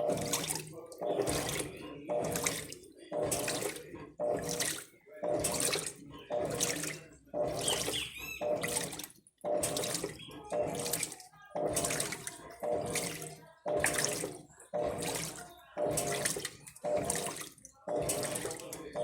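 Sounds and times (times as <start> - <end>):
washing machine water sloshing: 0.0 - 19.0.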